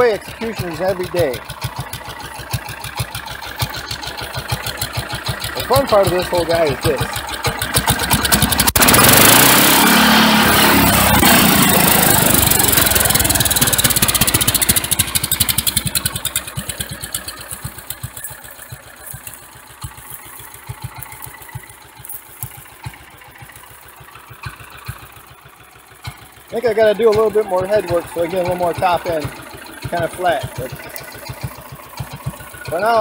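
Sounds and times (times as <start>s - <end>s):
small tractor engine revving and idling: 0.0s - 33.0s.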